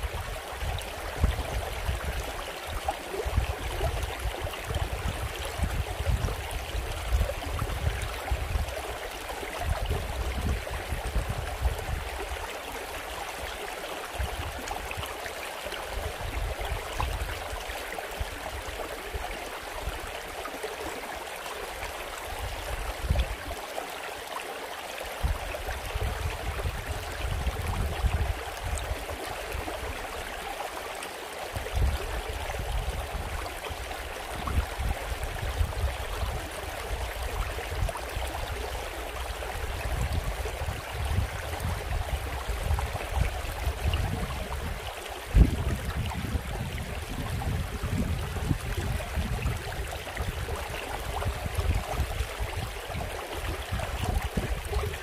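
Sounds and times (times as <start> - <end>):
stream rushing over stones: 0.0 - 55.0.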